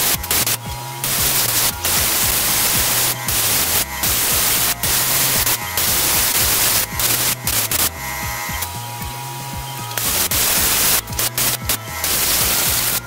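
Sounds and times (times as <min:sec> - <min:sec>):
air spray gun hissing: 0:00.0 - 0:13.0.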